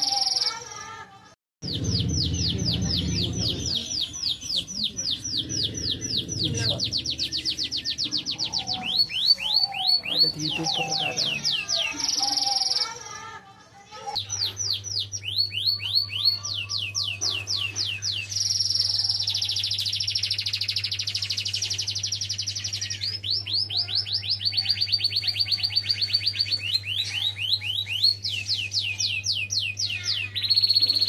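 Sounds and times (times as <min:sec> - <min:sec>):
canary singing: 0:00.0 - 0:00.8, 0:01.6 - 0:13.4, 0:14.1 - 0:31.0.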